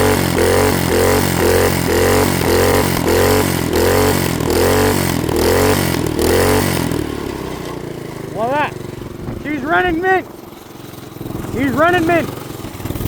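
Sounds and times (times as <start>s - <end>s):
small engine revving: 0.0s - 13.0s.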